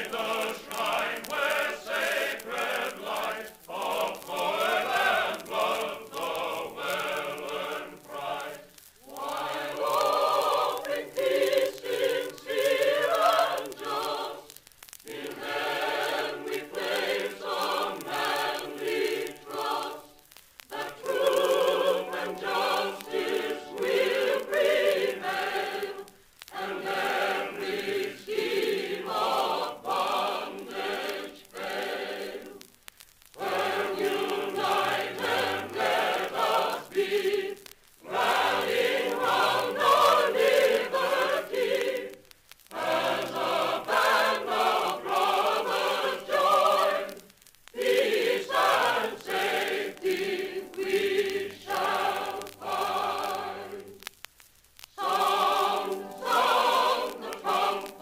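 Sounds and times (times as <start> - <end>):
mixed chorus singing: 0.0 - 32.7, 33.4 - 54.0, 54.9 - 58.0.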